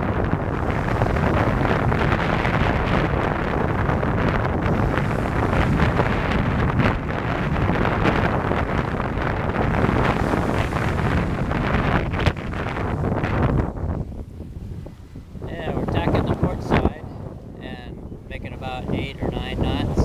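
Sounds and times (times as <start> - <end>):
water rushing past hull: 0.0 - 18.3
wind buffeting microphone: 0.0 - 20.0.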